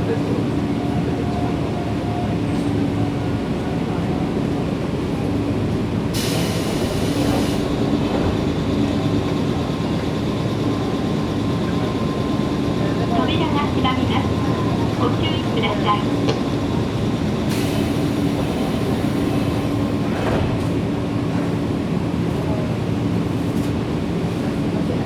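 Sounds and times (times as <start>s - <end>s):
train wheels rumbling on rail: 0.0s - 25.0s
train motor hum: 0.3s - 22.6s.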